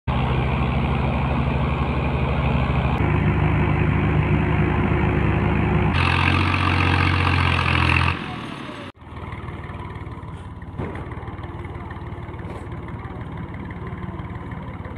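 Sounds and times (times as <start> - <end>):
diesel tractor engines running hard: 0.1 - 14.9.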